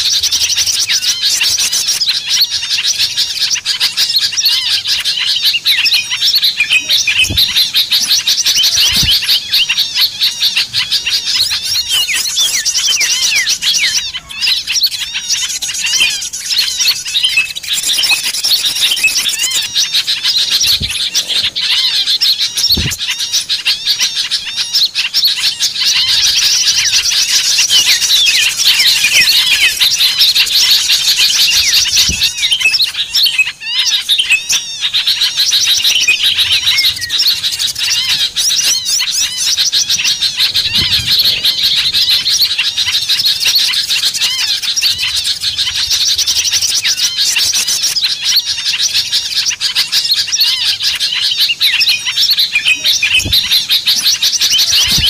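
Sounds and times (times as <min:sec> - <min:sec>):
songbirds chirping and whistling: 0:00.0 - 0:55.0.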